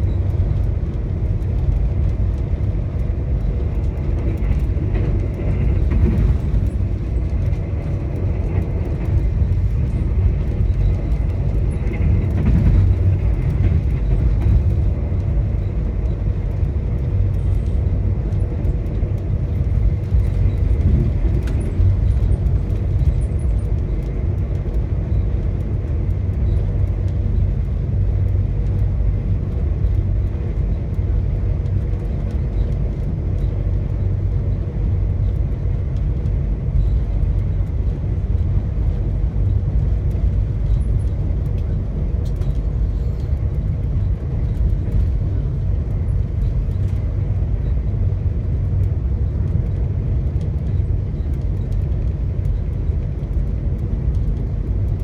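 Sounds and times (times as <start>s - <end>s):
passenger train rumbling: 0.0s - 55.0s.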